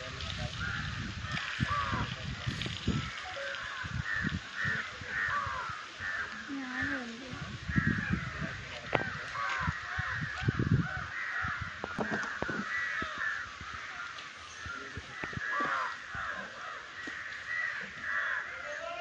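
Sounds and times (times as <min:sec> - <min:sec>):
crows cawing: 0:00.6 - 0:02.2, 0:02.9 - 0:19.0.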